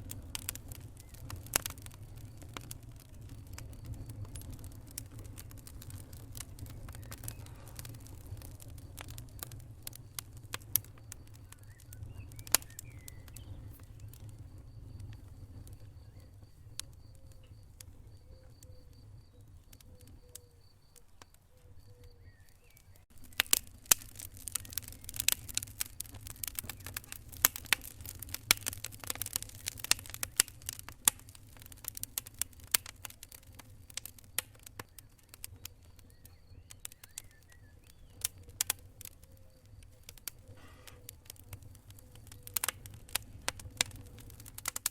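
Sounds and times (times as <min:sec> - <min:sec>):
low rumble of flames: 0:00.0 - 0:44.9
wood fire crackling: 0:00.0 - 0:44.9.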